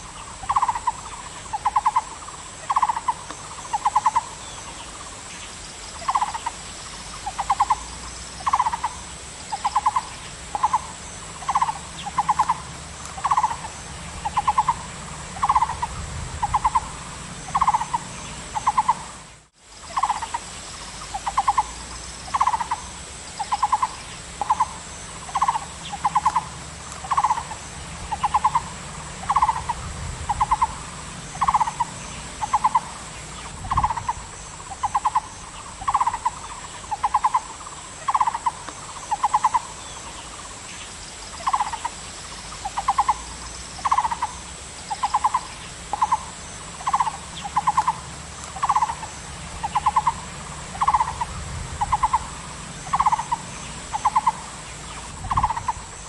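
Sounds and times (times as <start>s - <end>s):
bird calling with rattling notes: 0.0s - 56.0s.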